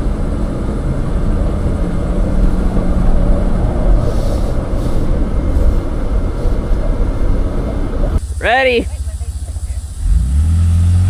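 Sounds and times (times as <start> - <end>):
off-road vehicle engine rumble: 0.0 - 11.0.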